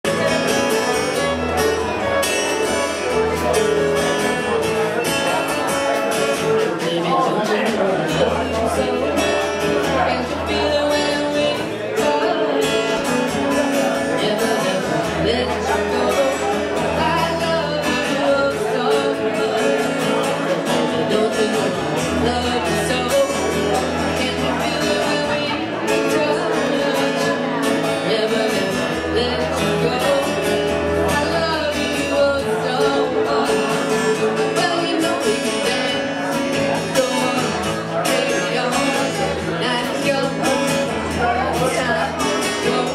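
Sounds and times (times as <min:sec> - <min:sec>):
acoustic guitar: 0:00.0 - 0:42.9
fiddle: 0:00.0 - 0:42.9.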